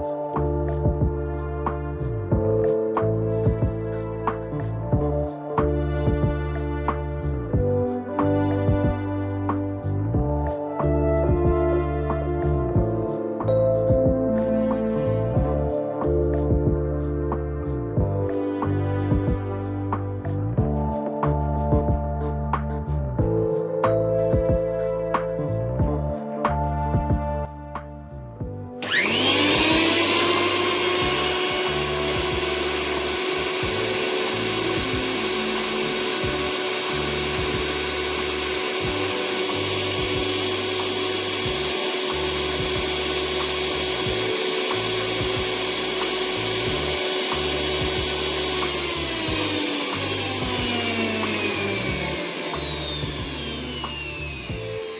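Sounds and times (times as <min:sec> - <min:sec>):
mixer grinder motor whine: 0:00.0 - 0:23.5, 0:28.4 - 0:54.9
background music with beat: 0:00.0 - 0:54.9.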